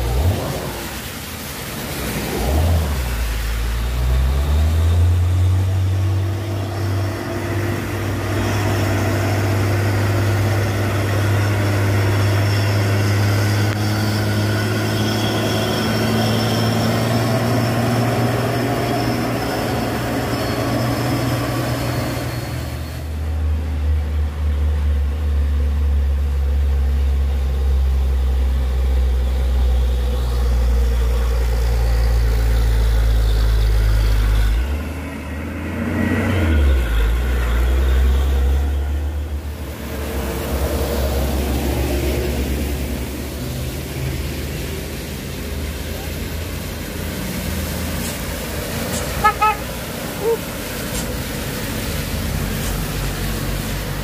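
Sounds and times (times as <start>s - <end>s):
truck diesel engine droning: 0.0s - 54.0s
tyres hissing on wet road: 0.0s - 54.0s.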